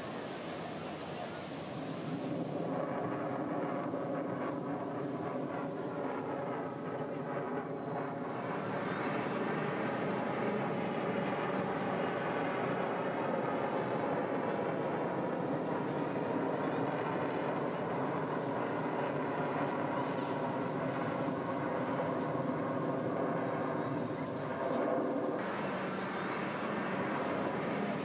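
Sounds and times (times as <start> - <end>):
airplane engine overhead: 0.0 - 28.0.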